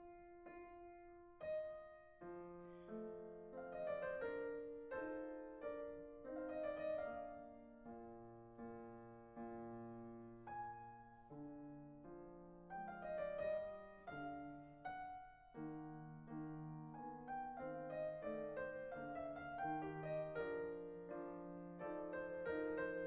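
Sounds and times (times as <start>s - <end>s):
solo piano chords: 0.0s - 23.0s.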